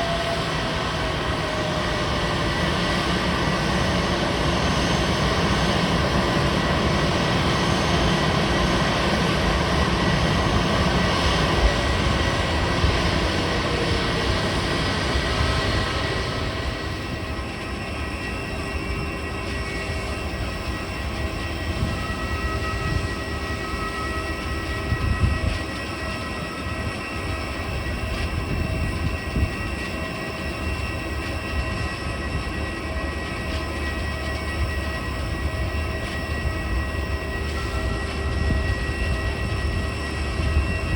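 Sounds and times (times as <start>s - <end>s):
high engine whine: 0.0s - 40.9s
jet engines running: 0.0s - 40.9s.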